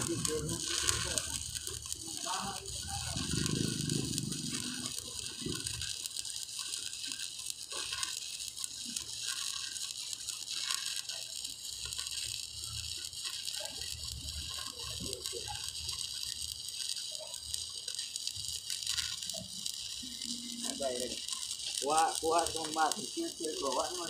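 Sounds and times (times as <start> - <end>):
arc welding crackling sizzle: 0.0 - 24.0.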